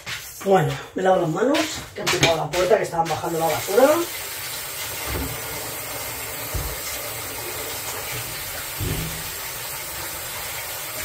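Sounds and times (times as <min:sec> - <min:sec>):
hands washing under water: 0:01.5 - 0:11.0
tap water running into sink: 0:02.2 - 0:11.0.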